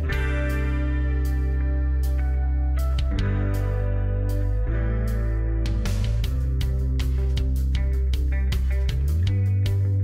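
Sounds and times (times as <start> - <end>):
guitar-led music with bass: 0.0 - 10.0.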